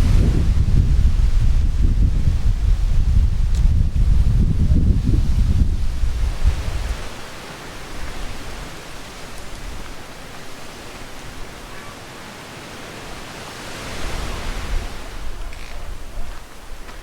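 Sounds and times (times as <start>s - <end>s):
wind buffeting microphone: 0.0s - 11.8s, 13.0s - 17.0s
gusty wind through trees: 0.0s - 17.0s.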